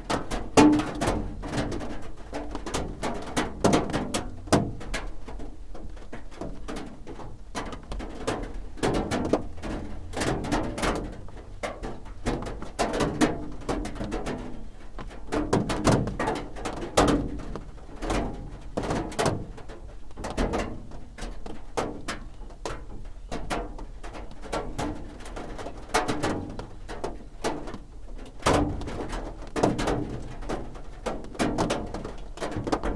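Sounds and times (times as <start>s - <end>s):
rain drumming on a roof: 0.0s - 32.9s.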